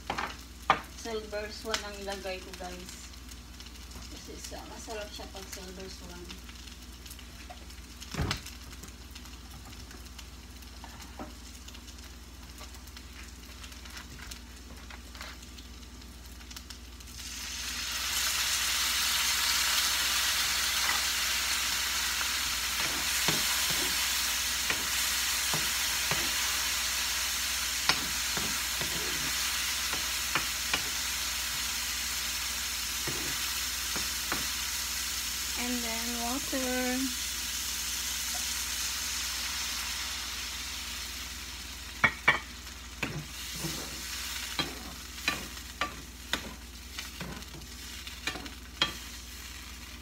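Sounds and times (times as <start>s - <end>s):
chicken sizzling in a frying pan: 0.0s - 50.0s.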